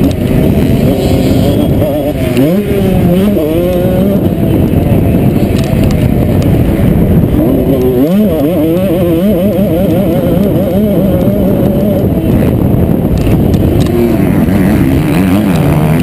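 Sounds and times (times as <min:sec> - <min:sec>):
motocross bike engine revving: 0:00.0 - 0:05.4, 0:06.2 - 0:16.0.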